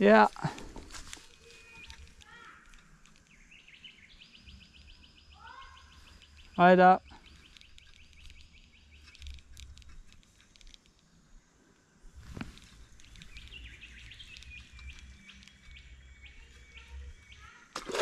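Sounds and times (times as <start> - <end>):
birds chirping and calling: 0.0 - 10.8, 12.4 - 17.8.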